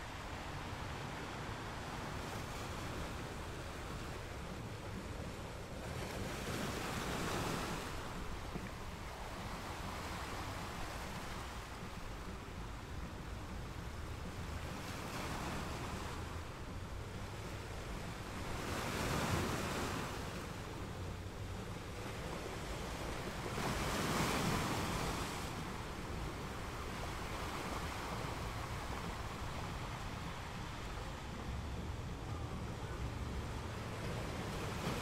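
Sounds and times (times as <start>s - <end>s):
gentle ocean waves washing: 0.0s - 35.0s
waves breaking: 0.0s - 35.0s.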